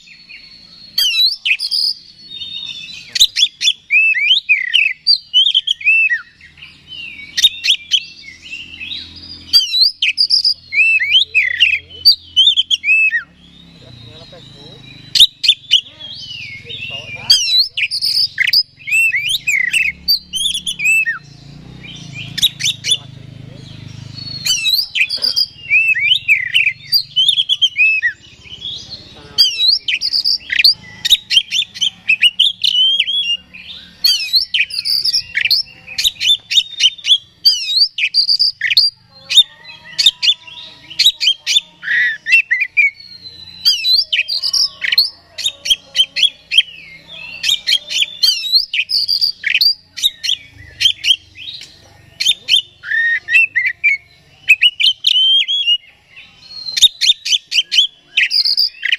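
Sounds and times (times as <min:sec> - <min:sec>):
songbird singing varied whistles: 0:00.0 - 0:58.9.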